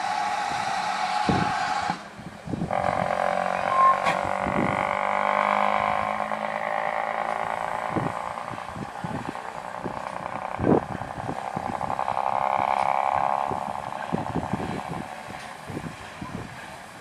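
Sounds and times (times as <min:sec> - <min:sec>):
steam locomotive hissing: 0:00.0 - 0:06.1, 0:07.5 - 0:17.0.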